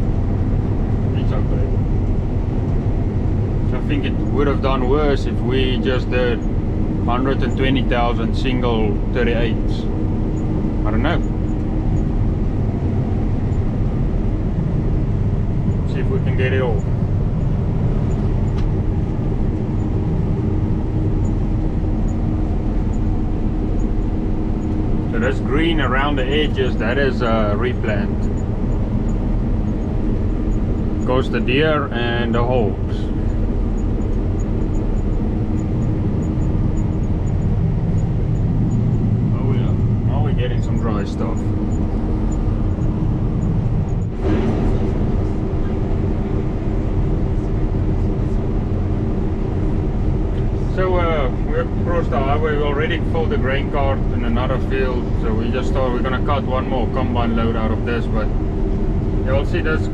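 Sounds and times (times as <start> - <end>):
combine harvester drone: 0.0 - 59.9
faint steady hum: 0.0 - 59.9.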